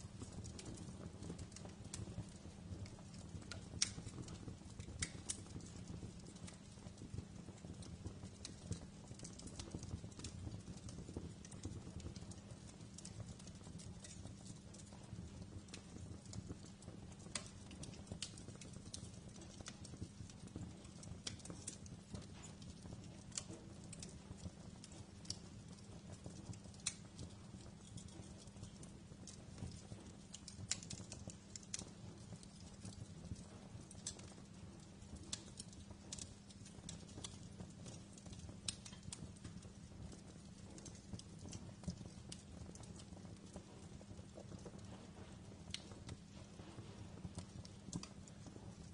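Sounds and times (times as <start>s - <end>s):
fire crackling and popping: 0.0s - 48.9s
low fire rumble: 0.0s - 48.9s.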